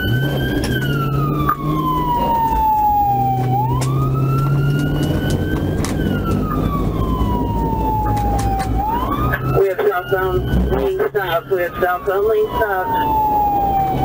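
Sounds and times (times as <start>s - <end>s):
car engine and road noise: 0.0s - 14.0s
police siren wailing: 0.0s - 14.0s.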